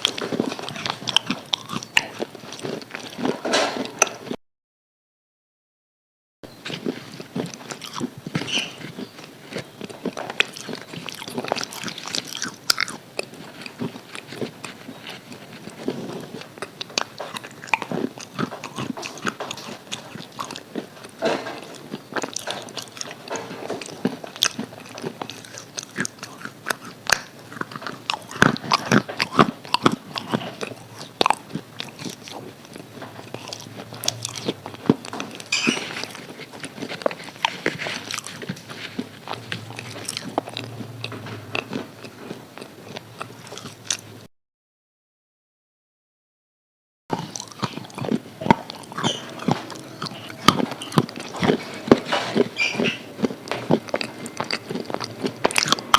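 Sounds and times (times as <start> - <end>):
crunching fried chicken: 0.0 - 4.4, 6.5 - 44.2, 47.1 - 55.9.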